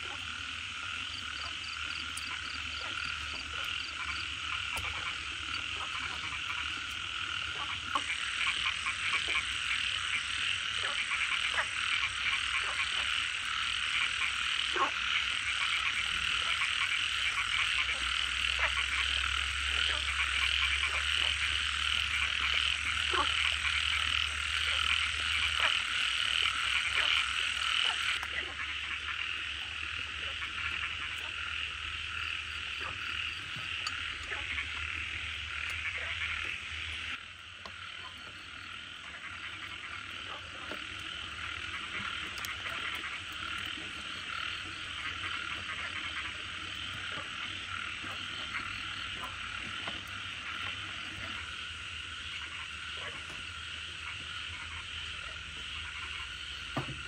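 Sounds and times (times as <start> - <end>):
frogs croaking chorus: 0.0 - 57.0.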